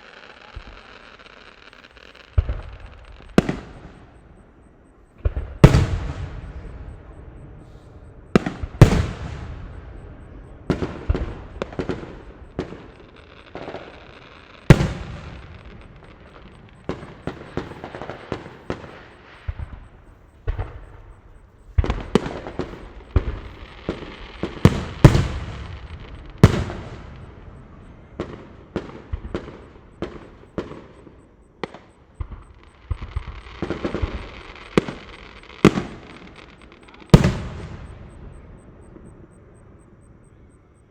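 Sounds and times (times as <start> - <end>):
fireworks crackling: 0.0 - 39.6
fireworks bangs: 0.0 - 40.7.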